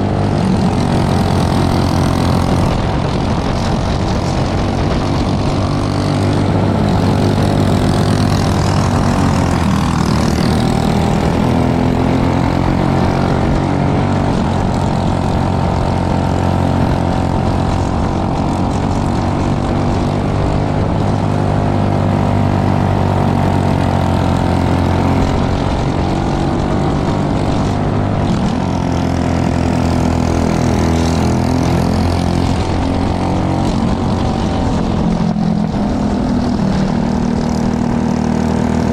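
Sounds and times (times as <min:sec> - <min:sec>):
kart engine running hard: 0:00.0 - 0:38.9.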